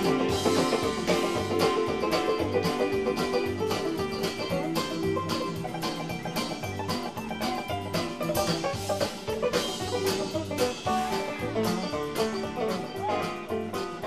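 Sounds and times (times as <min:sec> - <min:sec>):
upbeat music with bass line: 0:00.0 - 0:14.0.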